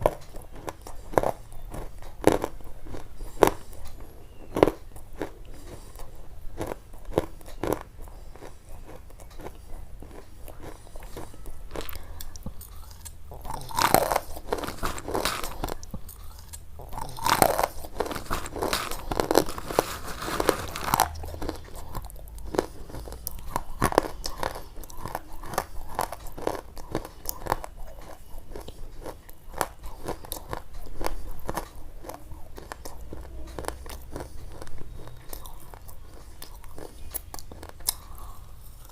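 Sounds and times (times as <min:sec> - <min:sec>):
crunching and sharp clicks: 0:00.0 - 0:38.9.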